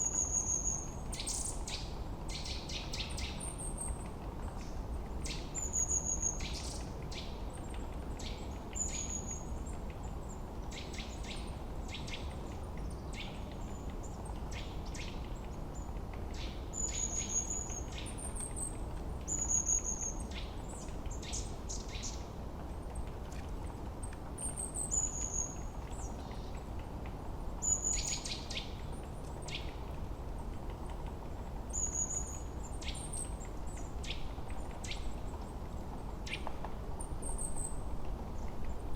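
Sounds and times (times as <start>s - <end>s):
low rush of background noise: 0.0s - 38.9s.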